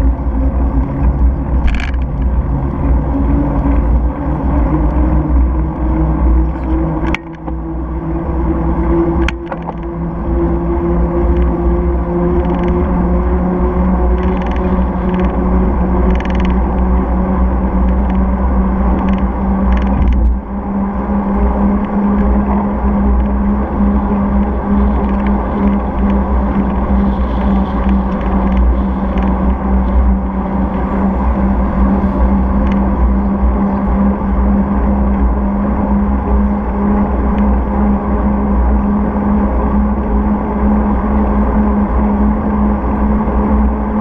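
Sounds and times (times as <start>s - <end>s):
low hum: 0.0s - 44.0s
wind and tyre rumble: 0.0s - 44.0s.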